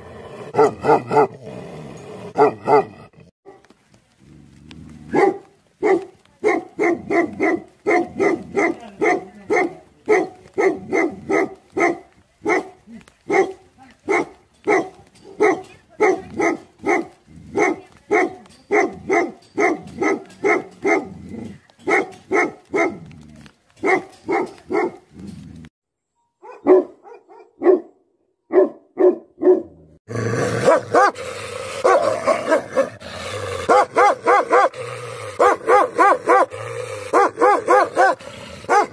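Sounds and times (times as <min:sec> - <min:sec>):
dog barking deep and fast: 0:00.5 - 0:01.4, 0:02.3 - 0:02.9, 0:05.1 - 0:21.2, 0:21.9 - 0:23.0, 0:23.8 - 0:25.0, 0:26.5 - 0:29.8, 0:30.4 - 0:38.9.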